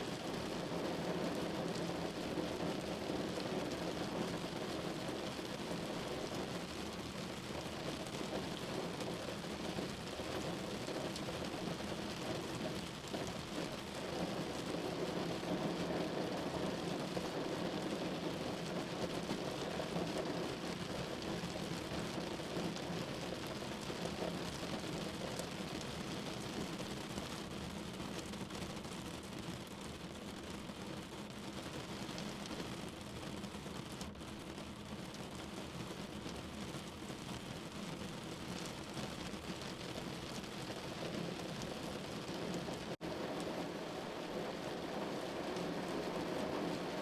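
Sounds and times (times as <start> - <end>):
rain on a window: 0.0 - 47.0.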